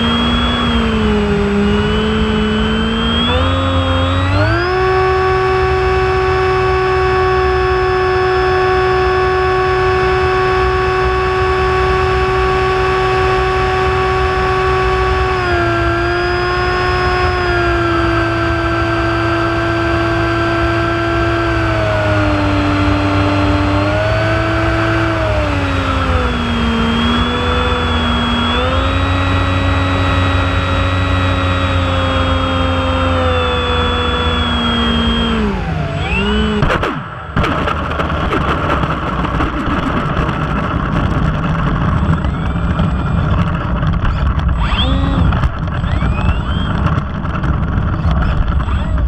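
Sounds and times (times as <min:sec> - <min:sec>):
model airplane motor drone: 0:00.0 - 0:37.7, 0:40.9 - 0:49.0
plane rolling along asphalt: 0:00.0 - 0:49.0.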